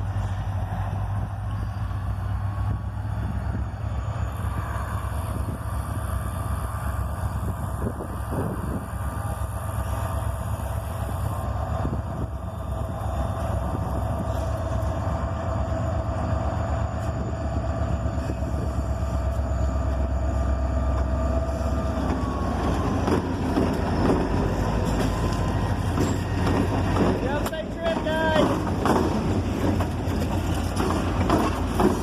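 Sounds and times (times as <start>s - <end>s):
diesel locomotives rumbling: 0.0s - 32.0s.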